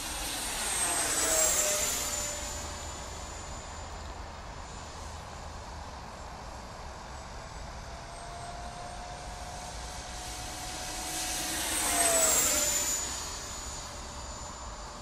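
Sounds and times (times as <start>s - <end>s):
model jet fan whine: 0.0s - 15.0s.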